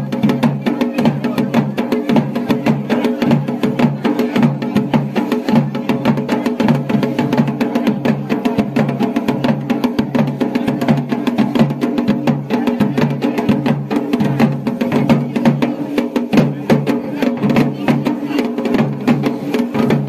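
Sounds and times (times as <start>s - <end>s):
dhol drumming: 0.0s - 20.0s.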